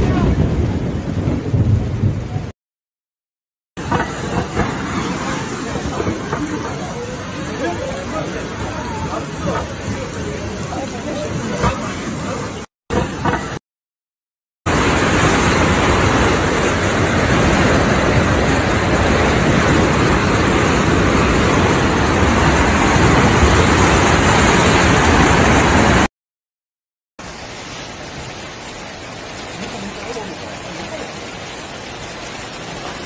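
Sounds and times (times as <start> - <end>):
rain: 0.0 - 2.6, 3.8 - 13.6, 14.7 - 26.1, 27.2 - 33.0
floodwater rushing down a street: 3.8 - 13.6, 14.7 - 26.1, 27.2 - 33.0.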